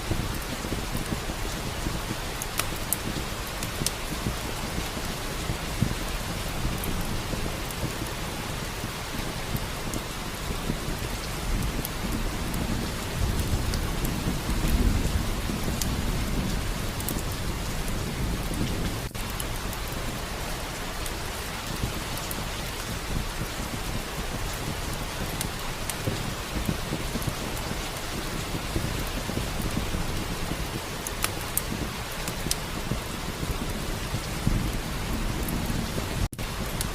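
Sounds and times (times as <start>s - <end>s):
low rumble of thunder: 0.0s - 36.9s
steady rain falling: 0.0s - 36.9s
wood fire crackling: 0.0s - 36.9s.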